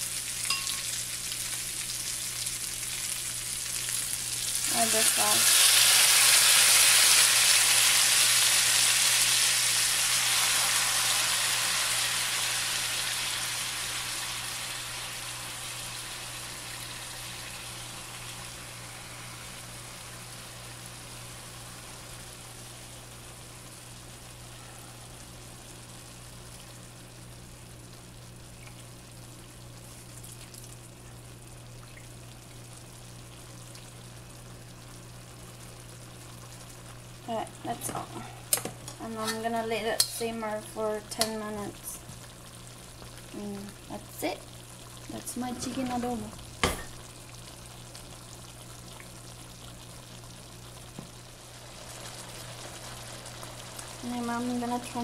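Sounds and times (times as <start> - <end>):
low steady hum: 0.0 - 55.0
sauce sizzling in a wok: 0.0 - 55.0.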